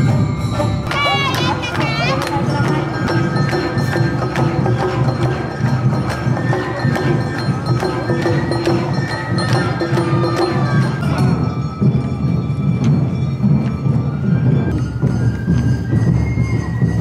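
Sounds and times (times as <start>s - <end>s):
struck metal bell: 0.0s - 15.7s
drums: 0.0s - 17.0s.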